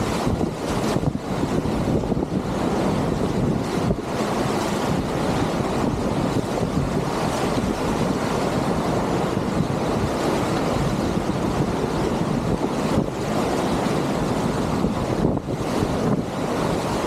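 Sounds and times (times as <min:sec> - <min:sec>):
whitewater rushing: 0:00.0 - 0:17.0
wind buffeting microphone: 0:00.0 - 0:17.0.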